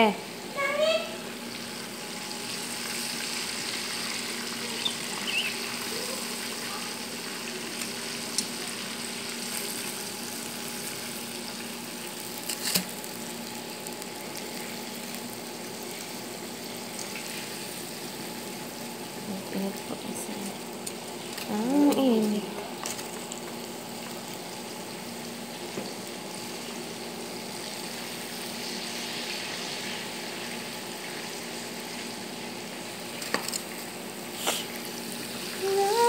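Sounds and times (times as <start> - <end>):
chicken deep-frying in oil: 0.1 - 36.0.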